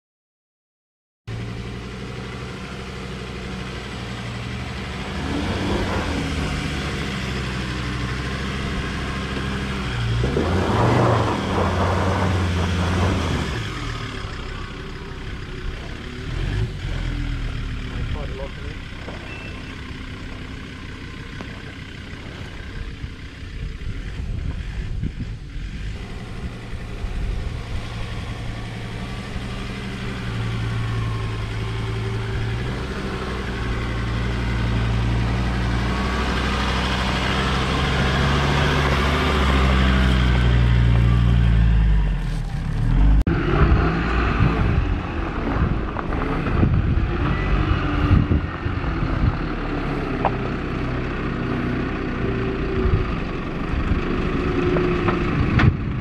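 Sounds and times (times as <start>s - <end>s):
truck engine at low revs: 1.3s - 56.0s.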